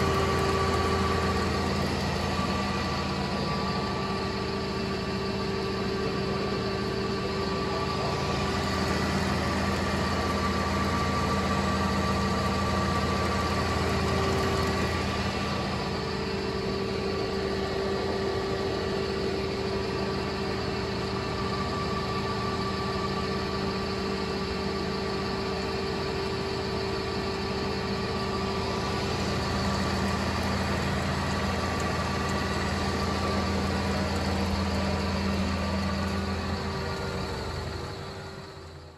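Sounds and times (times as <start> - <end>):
grinding machine humming: 0.0 - 38.9.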